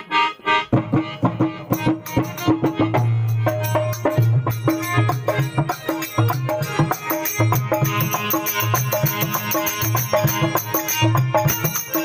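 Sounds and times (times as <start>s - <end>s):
harmonium playing folk tune: 0.0s - 12.0s
hand drum and percussion: 0.7s - 12.0s.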